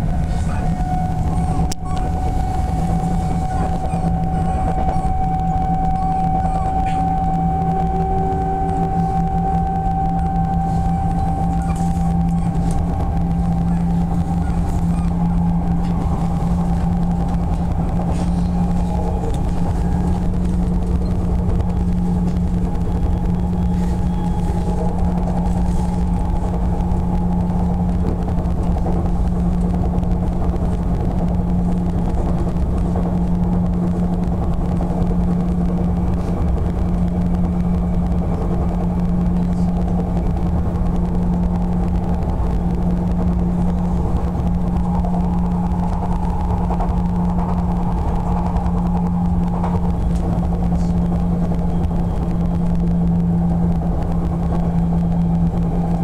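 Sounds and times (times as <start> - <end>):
steady low hum: 0.0 - 56.0
wheels rumbling on rail: 0.0 - 56.0.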